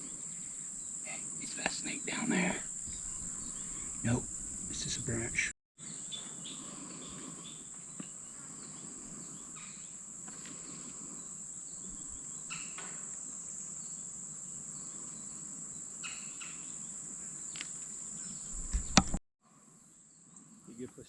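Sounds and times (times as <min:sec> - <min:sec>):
insect chorus drone: 0:00.0 - 0:21.0.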